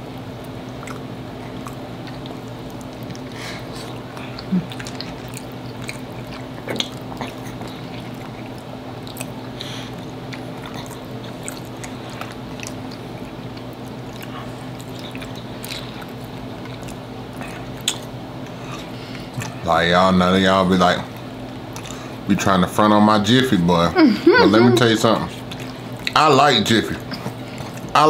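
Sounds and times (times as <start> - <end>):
steady low hum: 0.0 - 28.0
people chewing soft food: 0.3 - 22.3, 23.6 - 28.0.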